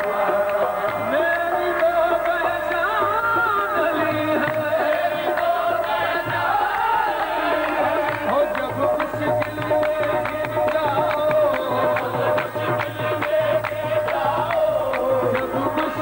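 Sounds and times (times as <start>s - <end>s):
group singing: 0.0s - 16.0s
harmonium steady tone: 0.0s - 16.0s
tabla strokes: 0.0s - 16.0s.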